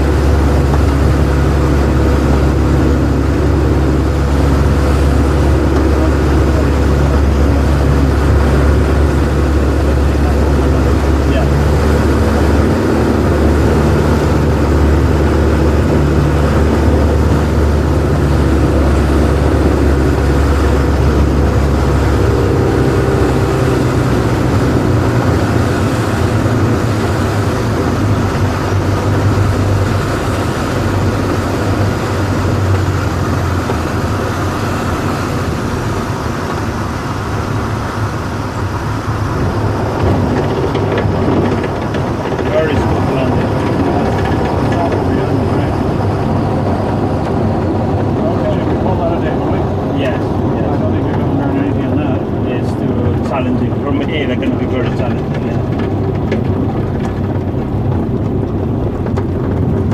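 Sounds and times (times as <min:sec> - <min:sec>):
light aircraft engine and propeller: 0:00.0 - 0:59.9
wind noise: 0:00.0 - 0:59.9.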